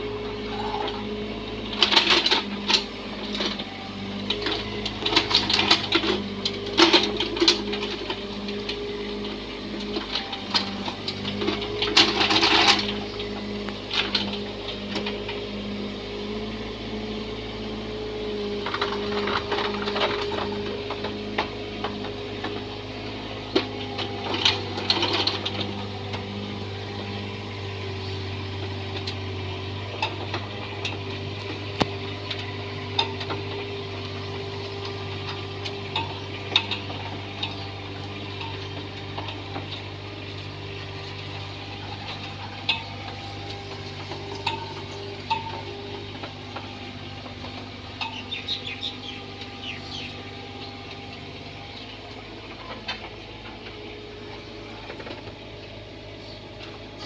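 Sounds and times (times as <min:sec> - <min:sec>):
mini excavator engine humming: 0:00.0 - 0:57.0.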